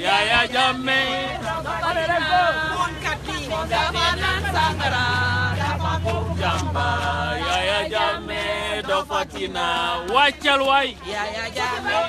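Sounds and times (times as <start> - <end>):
crowd singing a chant: 0.0 - 12.0.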